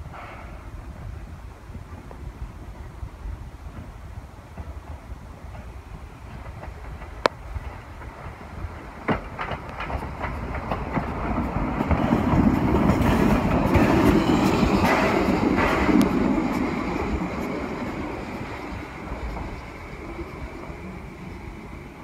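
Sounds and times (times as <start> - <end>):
steam locomotive rumble and hiss: 0.0 - 22.0.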